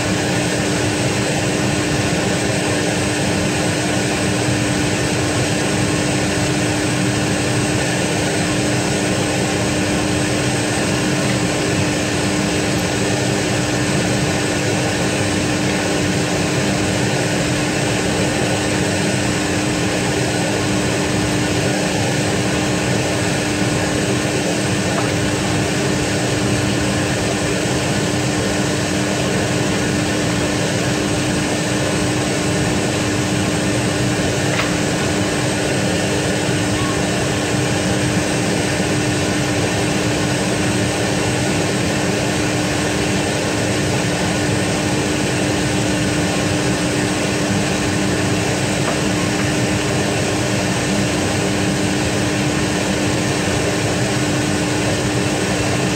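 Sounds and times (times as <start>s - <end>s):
parked jet airliner humming: 0.0s - 55.9s.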